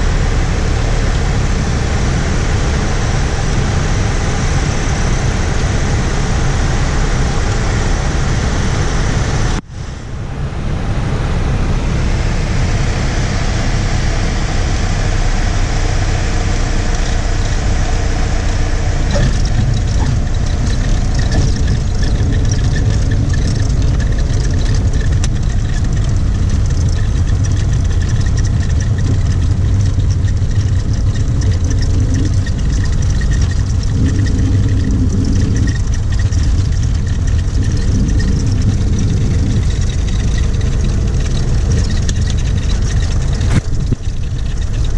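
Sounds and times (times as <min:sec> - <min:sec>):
aircraft engine and airflow drone: 0:00.0 - 0:44.9.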